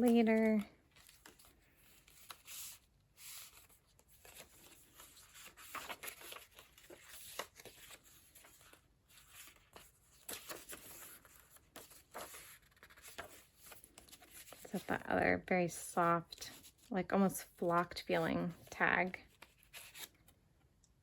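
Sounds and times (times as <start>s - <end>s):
paper pages rustling and flicking: 0.0s - 15.0s, 17.6s - 20.4s.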